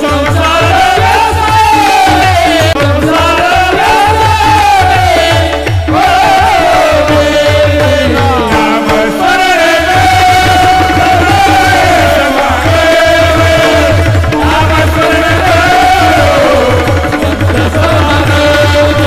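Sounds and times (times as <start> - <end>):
barrel drum: 0.0 - 19.0
men singing in chorus: 0.0 - 19.0.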